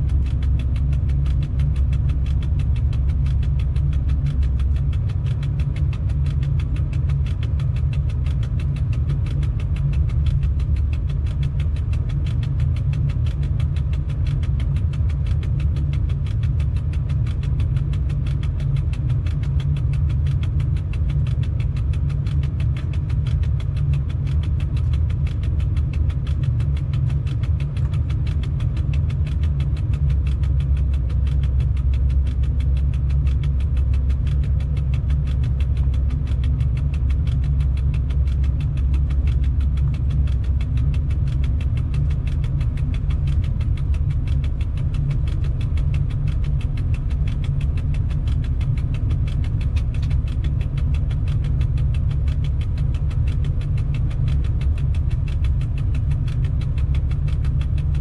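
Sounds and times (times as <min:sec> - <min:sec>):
faint steady hum: 0:00.0 - 0:58.0
locomotive low rumble: 0:00.0 - 0:58.0.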